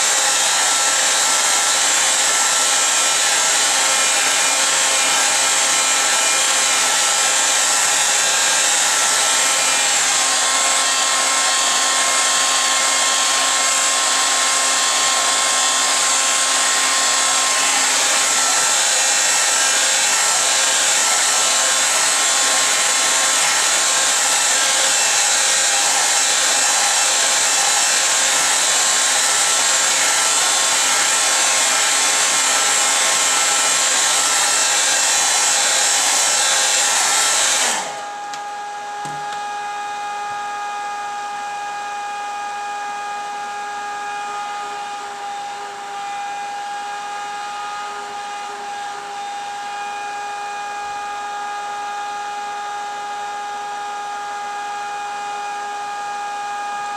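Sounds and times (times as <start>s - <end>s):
electric blower rushing air: 0.0s - 40.8s, 43.3s - 51.1s.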